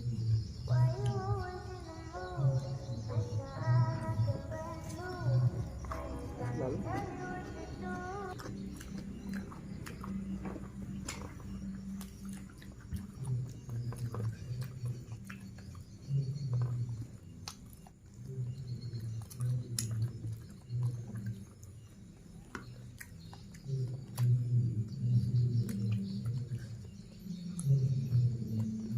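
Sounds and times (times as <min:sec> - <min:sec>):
mouth clicks: 0:00.0 - 0:28.9
person chewing food: 0:00.0 - 0:28.9.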